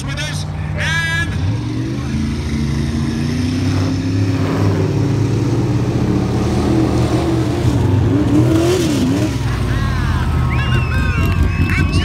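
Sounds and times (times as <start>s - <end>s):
truck engine at high revs: 0.0s - 12.0s.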